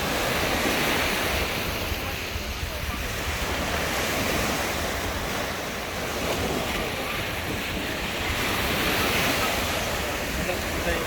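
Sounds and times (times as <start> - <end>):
sea waves washing in: 0.0 - 11.0
wind buffeting microphone: 0.0 - 11.0.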